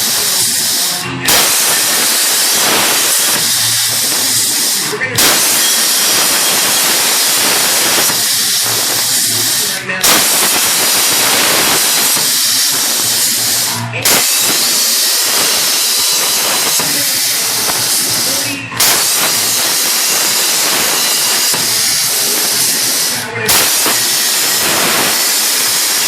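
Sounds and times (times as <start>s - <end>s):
plasma cutter hissing: 0.0s - 26.0s.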